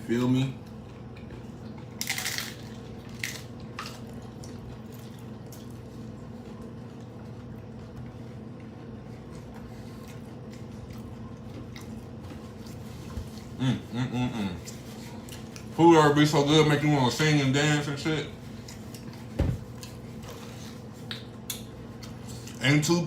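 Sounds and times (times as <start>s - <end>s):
taco crunching and chewing: 0.1s - 17.2s, 18.4s - 22.9s.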